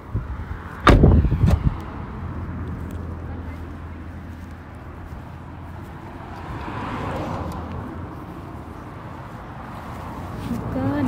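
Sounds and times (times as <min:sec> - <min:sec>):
car passing: 0:00.0 - 0:11.0
steady low traffic rumble: 0:00.0 - 0:11.0.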